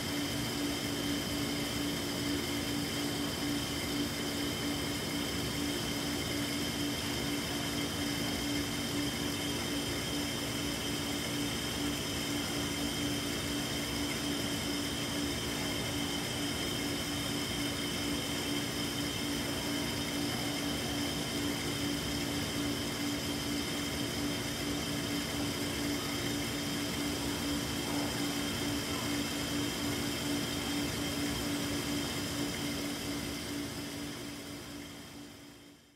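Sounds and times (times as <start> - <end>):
aquarium equipment hum: 0.0 - 35.9.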